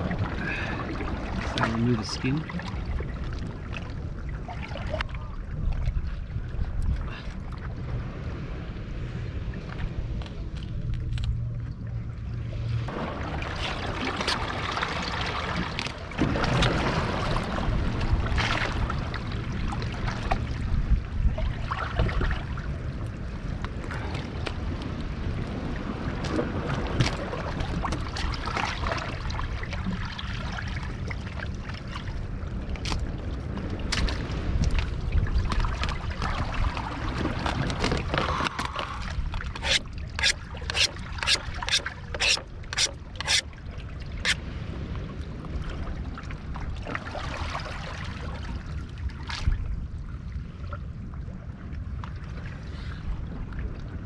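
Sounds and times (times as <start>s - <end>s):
seawater sloshing among rocks: 0.0s - 11.4s, 12.4s - 49.8s
steady low rumble: 0.0s - 46.8s.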